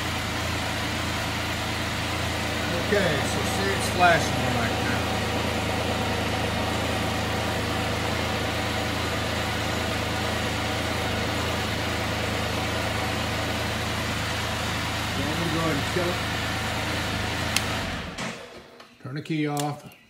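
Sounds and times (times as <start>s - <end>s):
motorcycle engine idling: 0.0s - 18.5s.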